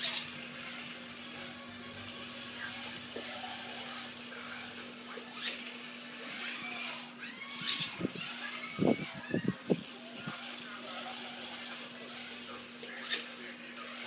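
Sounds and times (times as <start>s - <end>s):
toy car motor whirring: 0.0s - 14.0s.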